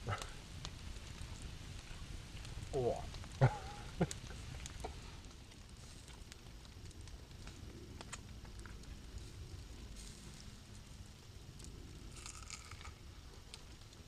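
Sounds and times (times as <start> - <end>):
campfire crackling: 0.0 - 14.0
low steady rumble: 0.0 - 14.0.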